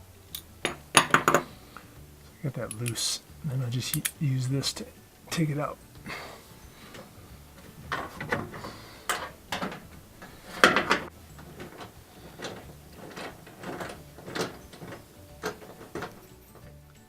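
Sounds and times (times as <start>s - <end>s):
hand tool clicking and scraping metal: 0.3s - 5.4s, 6.1s - 17.0s.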